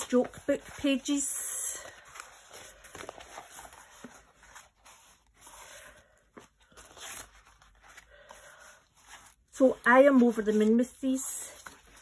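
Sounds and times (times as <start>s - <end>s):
book pages rustling and sliding: 0.0s - 12.0s.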